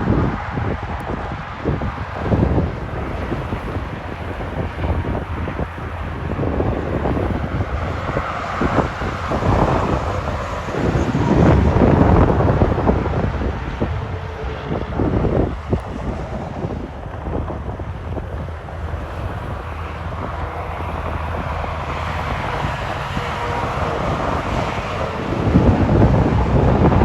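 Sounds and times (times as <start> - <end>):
trucks passing: 0.0 - 27.0
wind on microphone: 0.0 - 27.0.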